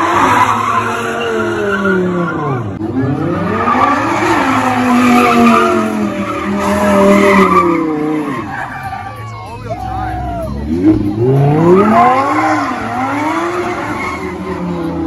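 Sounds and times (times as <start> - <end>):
car engine revving: 0.0 - 9.2, 10.6 - 15.0.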